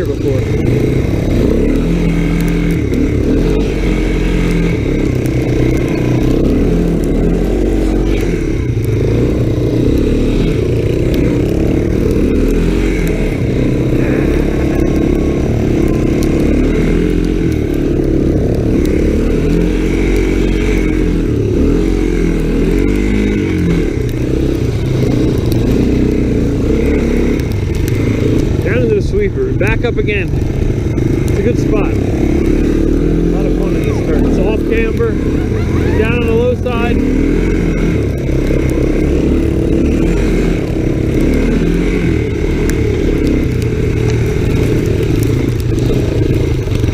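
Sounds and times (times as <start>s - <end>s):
off-road engine revving: 0.0s - 46.9s.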